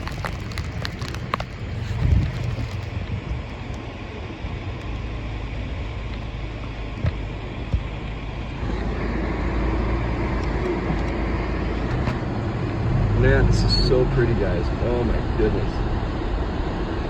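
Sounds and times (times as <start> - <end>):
car road noise on snow: 0.0 - 17.0.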